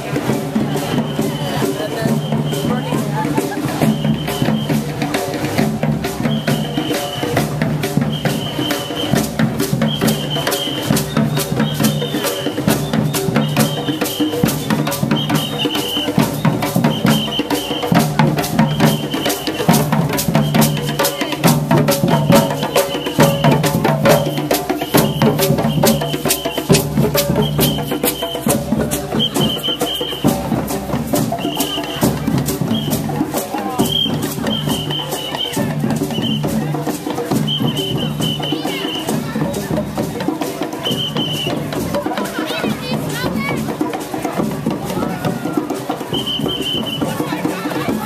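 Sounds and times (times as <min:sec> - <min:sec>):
drum group playing: 0:00.0 - 0:48.0
fast rattling drum strokes: 0:00.0 - 0:48.0.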